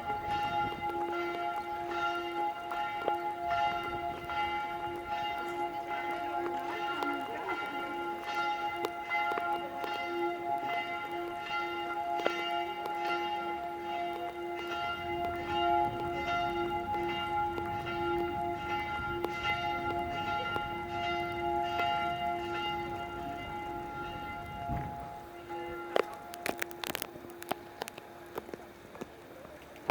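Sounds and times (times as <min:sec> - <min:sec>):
church bells ringing: 0:00.0 - 0:28.8.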